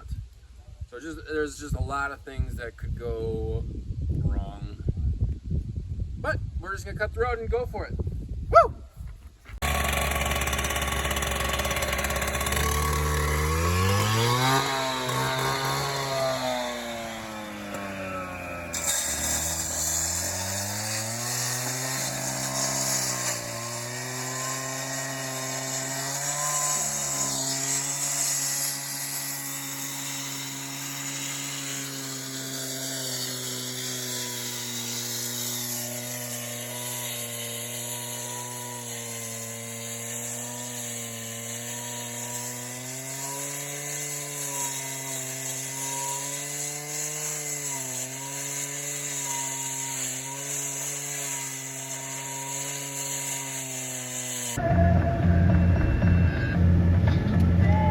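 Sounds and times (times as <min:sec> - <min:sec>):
concrete saw cutting asphalt: 0:09.6 - 0:57.9.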